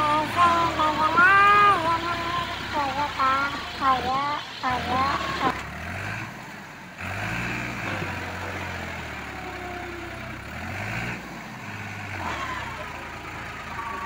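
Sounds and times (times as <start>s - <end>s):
tractor diesel engine running hard: 0.0s - 14.0s.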